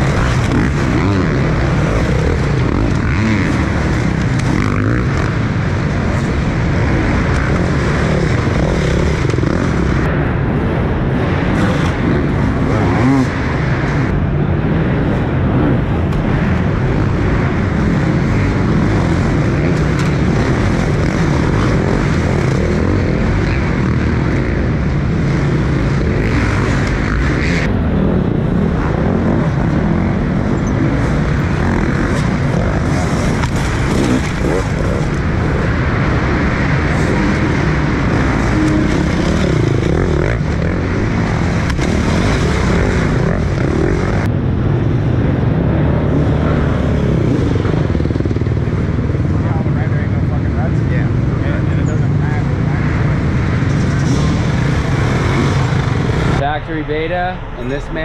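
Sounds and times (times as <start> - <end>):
dirt bike engines running: 0.0 - 58.0.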